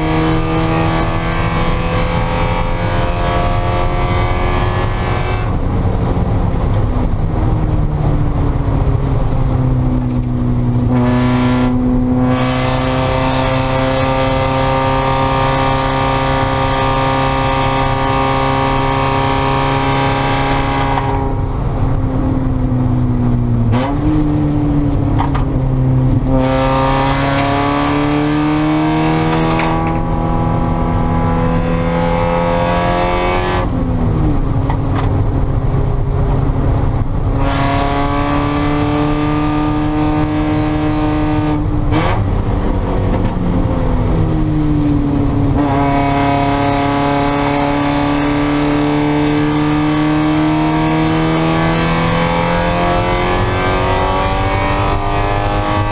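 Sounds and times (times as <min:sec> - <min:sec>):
race car engine accelerating: 0:00.0 - 0:55.9.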